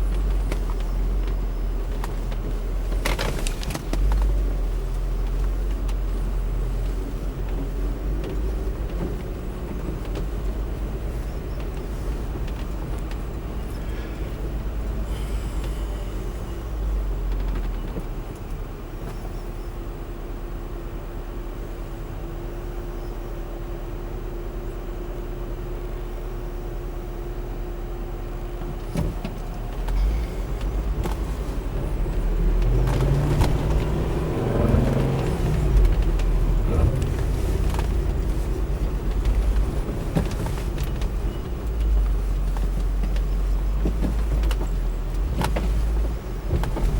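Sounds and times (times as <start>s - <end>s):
low engine rumble: 0.0s - 46.9s.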